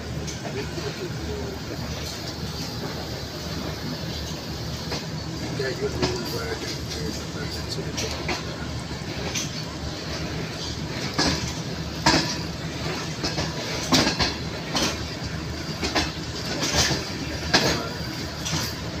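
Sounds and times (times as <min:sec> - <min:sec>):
train rumble: 0:00.0 - 0:19.0
wheel clack over rail joints: 0:00.0 - 0:19.0.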